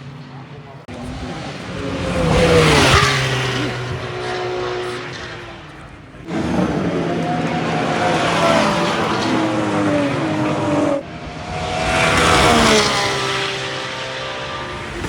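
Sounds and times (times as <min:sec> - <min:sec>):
race cars passing at speed: 0:00.0 - 0:15.0.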